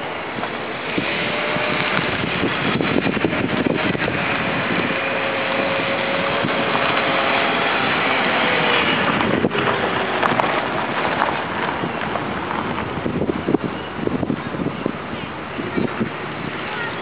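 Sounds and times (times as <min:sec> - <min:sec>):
jet engines whining: 0:00.0 - 0:17.0
loud rush of noise: 0:00.0 - 0:17.0
wind buffeting microphone: 0:00.0 - 0:17.0.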